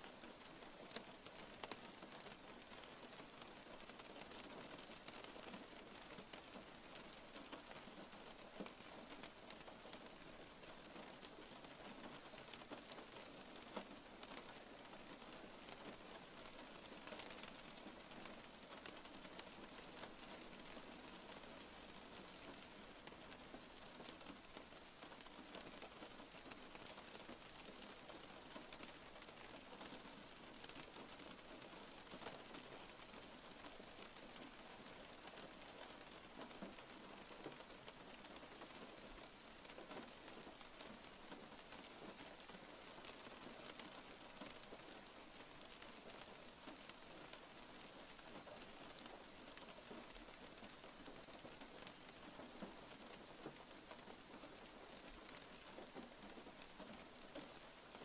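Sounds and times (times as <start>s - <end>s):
faint rain patter: 0.0s - 58.0s.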